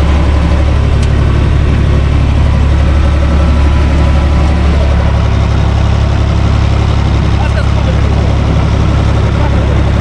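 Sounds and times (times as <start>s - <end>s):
tractor diesel engine from cab: 0.0s - 10.0s.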